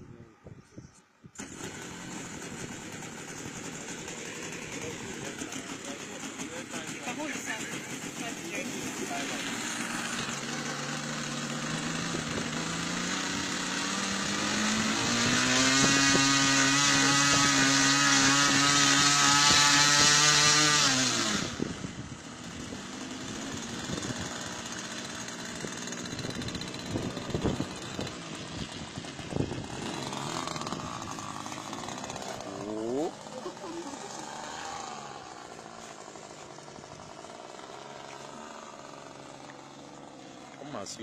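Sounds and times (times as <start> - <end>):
model airplane engine revving: 1.3 - 41.0.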